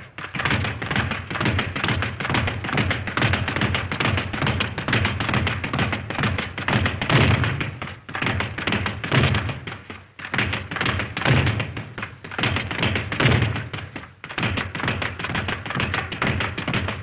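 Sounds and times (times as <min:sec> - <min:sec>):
rapid tapping and thudding: 0:00.0 - 0:17.0.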